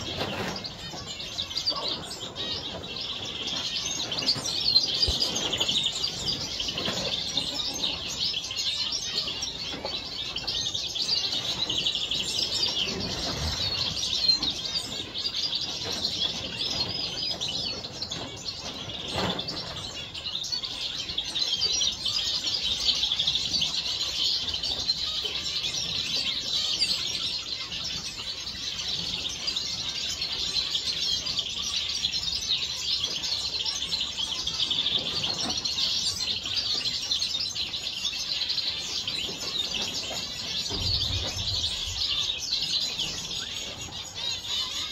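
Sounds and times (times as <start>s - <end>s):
finches chirping: 0.0s - 44.9s.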